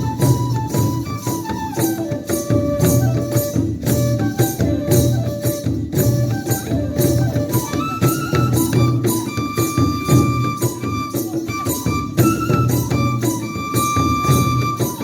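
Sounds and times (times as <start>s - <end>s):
drums: 0.0s - 15.0s
jingling percussion: 0.0s - 15.0s.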